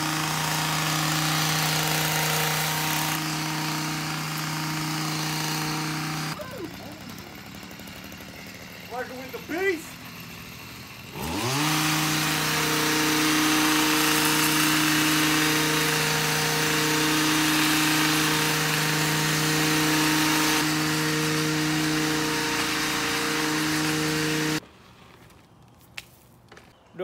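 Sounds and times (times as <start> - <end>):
tiller engine running: 0.0 - 24.6
tines churning soil: 0.0 - 26.2.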